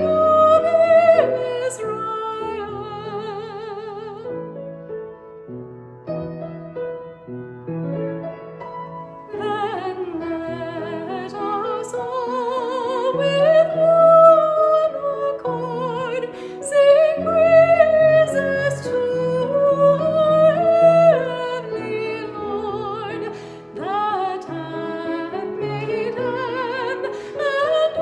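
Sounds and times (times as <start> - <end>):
classical solo singing: 0.0 - 4.6, 9.2 - 28.0
piano accompaniment: 0.0 - 28.0.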